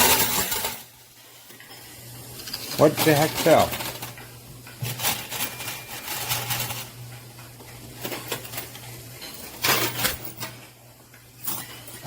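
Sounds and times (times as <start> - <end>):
coins clinking: 0.0 - 7.0, 8.0 - 10.6, 11.4 - 12.0
coin pusher machine humming: 0.0 - 7.2, 7.8 - 10.7, 11.4 - 12.0.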